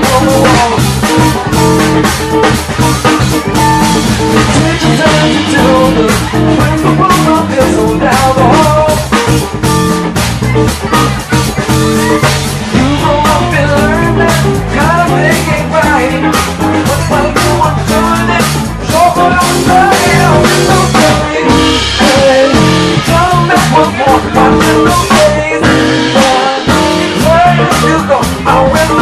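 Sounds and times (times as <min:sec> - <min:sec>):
bass guitar: 0:00.0 - 0:29.0
drum kit beat: 0:00.0 - 0:29.0
guitar: 0:00.0 - 0:29.0.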